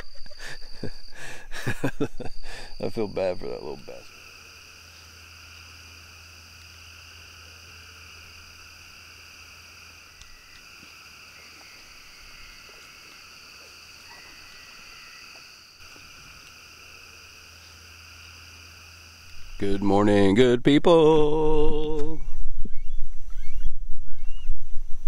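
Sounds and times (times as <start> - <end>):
frogs and insects trilling: 0.0 - 22.2.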